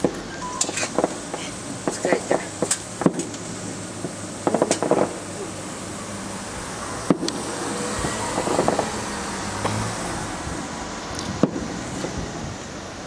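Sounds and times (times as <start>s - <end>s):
fireworks bursting: 0.0s - 12.7s.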